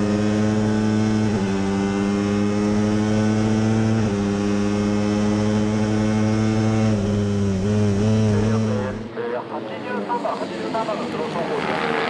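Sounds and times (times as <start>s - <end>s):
motorcycle engine accelerating: 0.0s - 9.1s, 10.8s - 12.0s.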